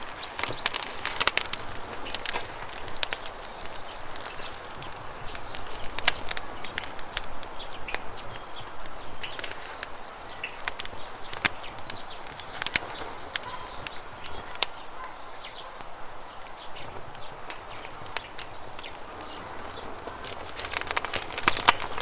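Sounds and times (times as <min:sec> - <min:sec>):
bird chirps: 0:00.0 - 0:22.0
campfire crackling and popping: 0:00.0 - 0:22.0.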